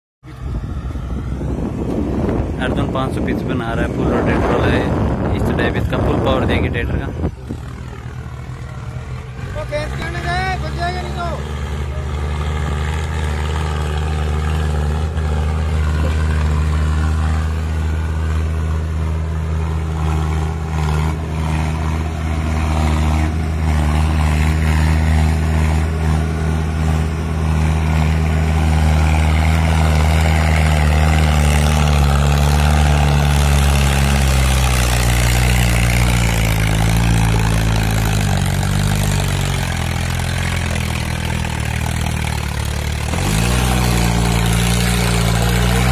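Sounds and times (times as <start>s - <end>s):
tractor diesel engine working: 0.2s - 45.9s.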